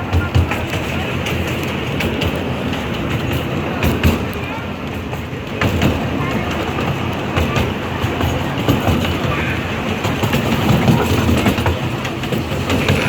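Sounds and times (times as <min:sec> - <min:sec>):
clicks and knocks of wheels: 0:00.0 - 0:13.0
steam train running on track: 0:00.0 - 0:13.0.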